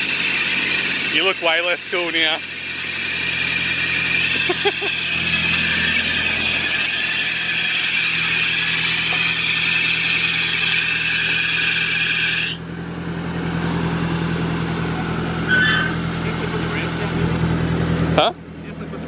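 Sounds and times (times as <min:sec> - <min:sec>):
car engine idling: 0:00.0 - 0:11.8, 0:12.5 - 0:19.0.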